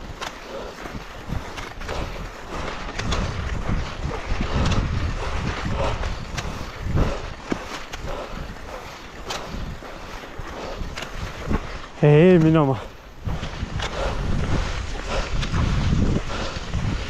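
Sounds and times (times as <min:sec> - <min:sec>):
skis hissing over snow: 0:00.0 - 0:17.0
wind rumbling on microphone: 0:00.0 - 0:17.0.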